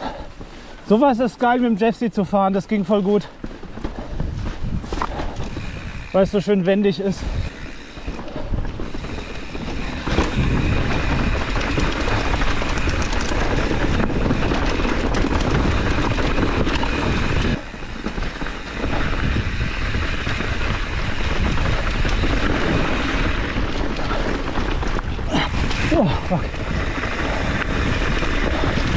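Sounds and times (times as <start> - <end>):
bike tyres on rock and gravel: 0.0 - 28.9
bike chain and frame rattling: 2.9 - 28.9
wind on microphone: 3.6 - 28.9.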